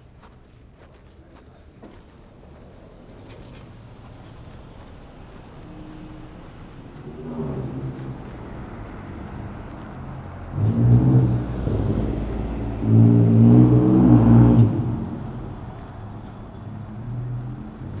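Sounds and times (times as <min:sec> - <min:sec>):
vehicle engine accelerating: 0:01.9 - 0:18.0.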